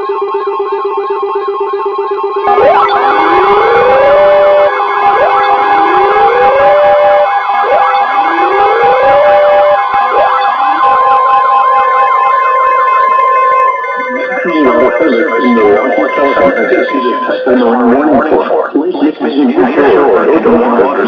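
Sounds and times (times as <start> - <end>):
steady alarm tones: 0.0 - 21.0
warning sirens wailing: 0.0 - 21.0.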